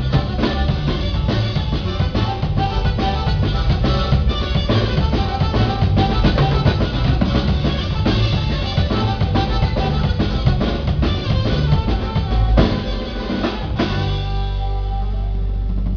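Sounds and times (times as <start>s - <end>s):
quick drum hits: 0.0s - 14.3s
live band playing: 0.0s - 15.9s.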